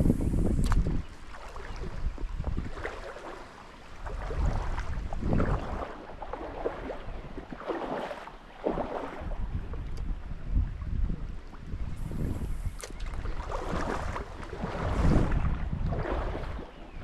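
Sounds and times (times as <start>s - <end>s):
wind buffeting microphone: 0.0s - 3.3s, 3.9s - 8.0s, 8.6s - 17.0s.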